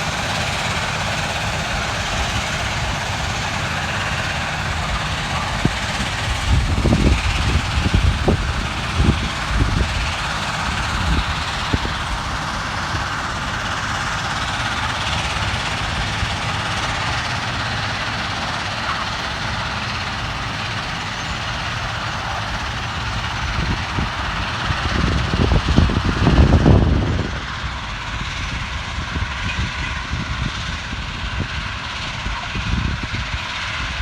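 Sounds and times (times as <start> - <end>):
heavy machine roaring: 0.0 - 30.3
low rumble: 1.2 - 31.5.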